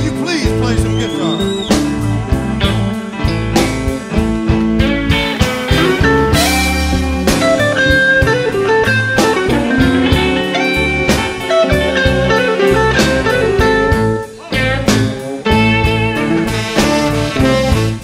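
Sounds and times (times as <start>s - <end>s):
bass and drums backing: 0.0s - 18.0s
electric blues guitar solo: 0.0s - 18.0s.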